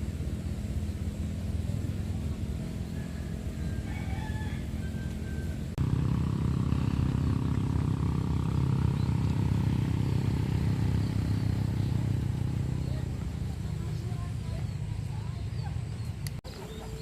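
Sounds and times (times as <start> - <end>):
motor vehicle engine hum: 0.0 - 17.0.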